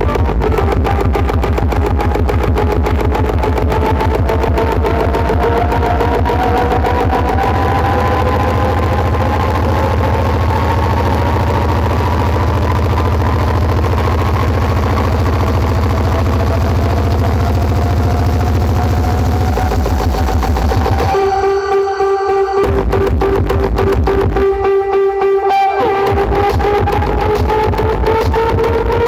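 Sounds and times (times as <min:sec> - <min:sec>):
deep pulsing bass drone: 0:00.0 - 0:24.7, 0:25.9 - 0:29.0
higher tones rising in pitch: 0:00.0 - 0:29.0.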